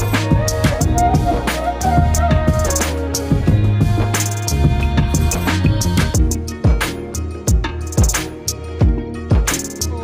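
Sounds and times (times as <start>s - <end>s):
music with a steady beat: 0.0s - 10.0s.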